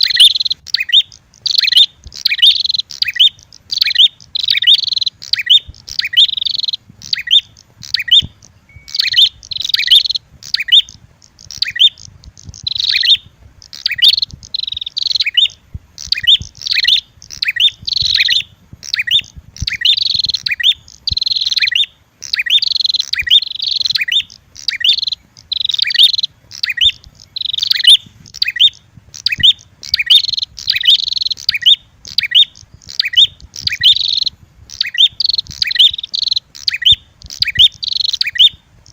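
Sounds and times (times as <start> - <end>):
bird high-pitched chip notes: 0.0 - 38.9.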